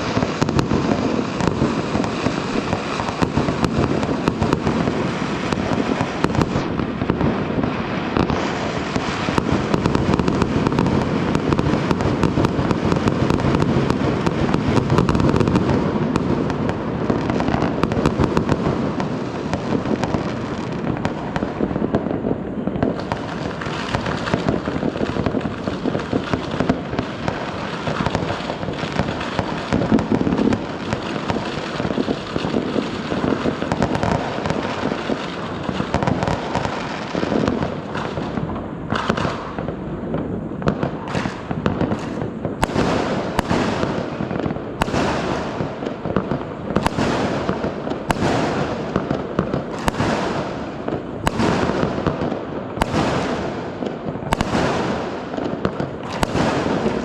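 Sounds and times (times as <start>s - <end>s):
fireworks and firecrackers exploding: 0.0s - 57.0s.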